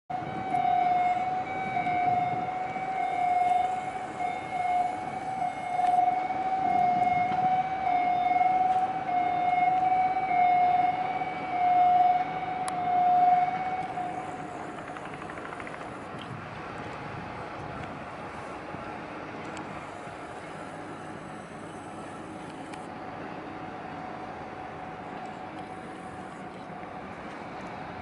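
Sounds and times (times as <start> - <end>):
high-pitched crane warning alarm: 0.1 - 28.0.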